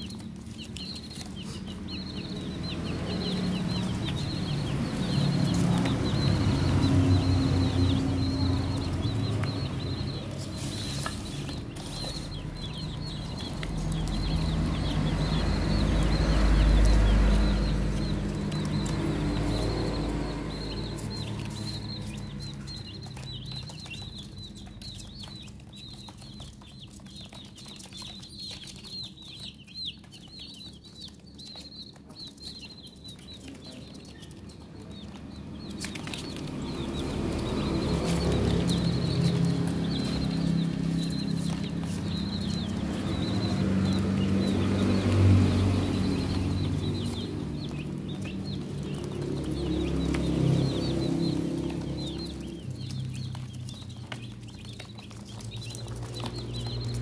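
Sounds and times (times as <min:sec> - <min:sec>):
beaks pecking on cardboard: 0:00.0 - 0:57.0
chicks peeping: 0:00.0 - 0:57.0.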